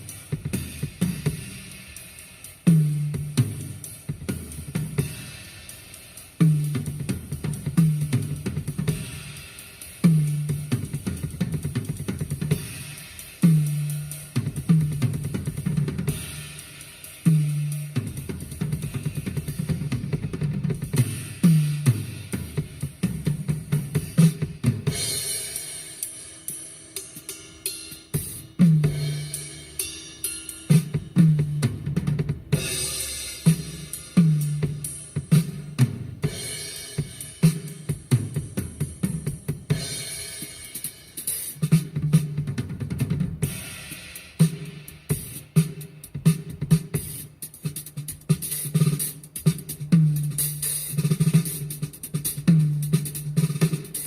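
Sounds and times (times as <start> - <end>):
drum kit playing: 0.0 - 54.0.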